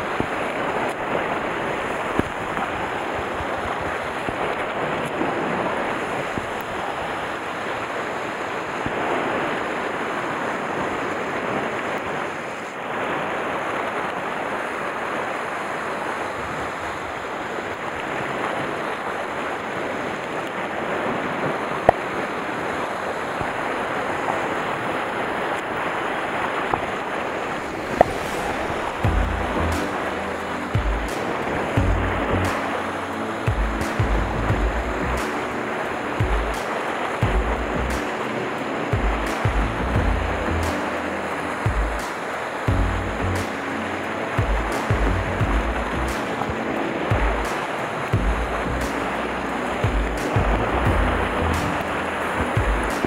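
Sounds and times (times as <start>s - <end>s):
sea waves on rocky shore: 0.0s - 53.0s
wind on microphone: 0.0s - 53.0s.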